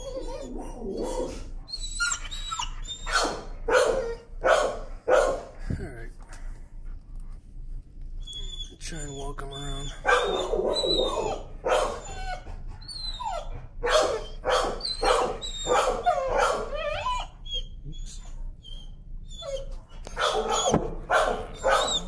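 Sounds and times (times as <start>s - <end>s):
dog screaming and yelping: 0.0s - 5.6s, 8.2s - 22.0s.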